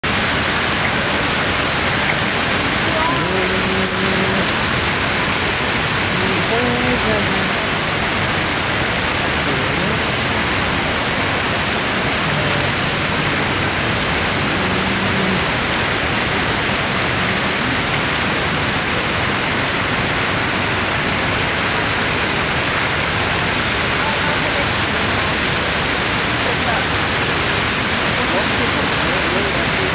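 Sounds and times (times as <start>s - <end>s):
fountain water rushing: 0.0s - 29.9s.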